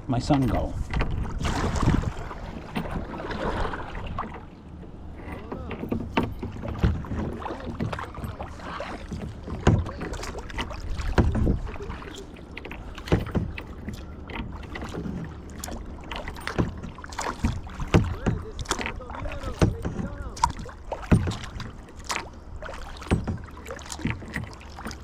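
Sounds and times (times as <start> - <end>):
steady water noise: 0.0 - 25.0
kayak paddle splashes: 0.1 - 25.0.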